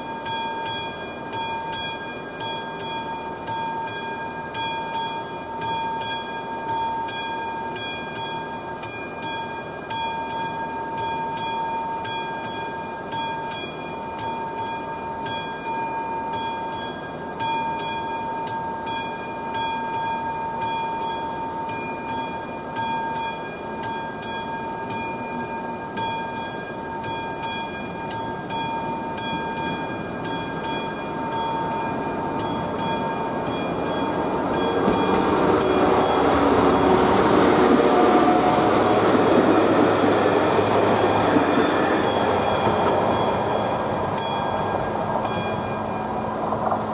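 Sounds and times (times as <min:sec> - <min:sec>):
level crossing warning bell: 0:00.0 - 0:46.9
steady high tone: 0:00.0 - 0:46.9.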